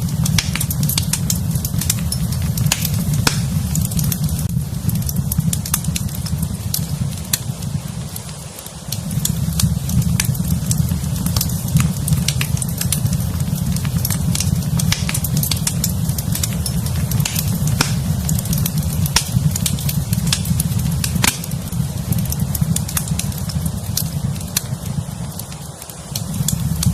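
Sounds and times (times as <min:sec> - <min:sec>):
low steady rumble: 0:00.0 - 0:26.9
sharp fire pops: 0:00.0 - 0:26.9
wood fire crackling: 0:00.0 - 0:26.9.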